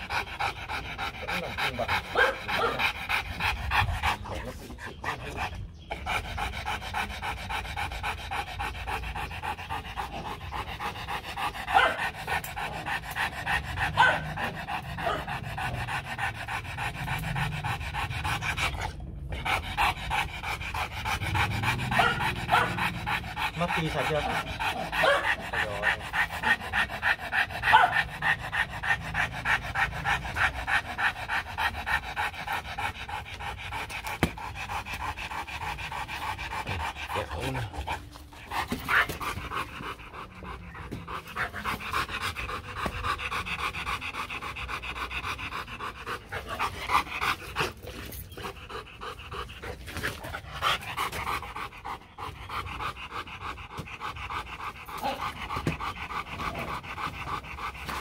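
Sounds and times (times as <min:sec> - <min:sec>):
dog panting: 0:00.0 - 0:58.0.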